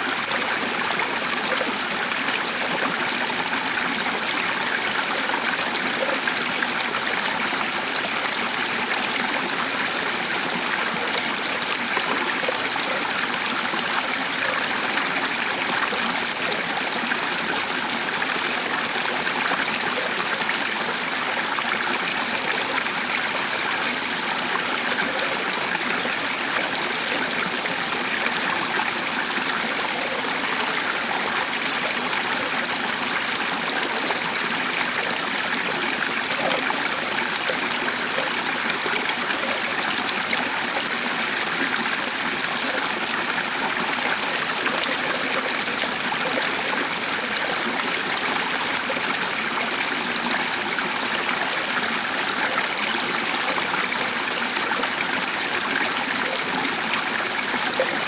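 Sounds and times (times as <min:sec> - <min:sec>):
stream of flowing water: 0:00.0 - 0:58.0.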